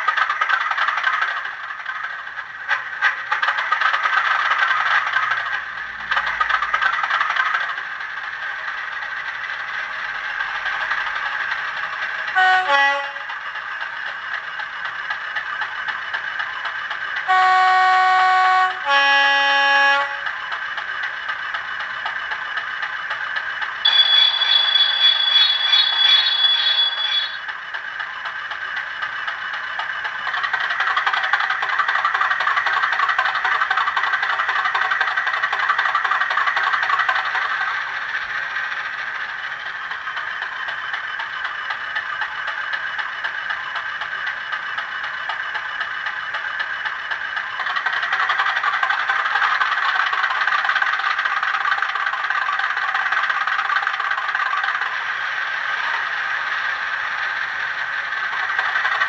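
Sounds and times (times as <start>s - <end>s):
diesel engine sound from small speaker: 0.0s - 59.0s.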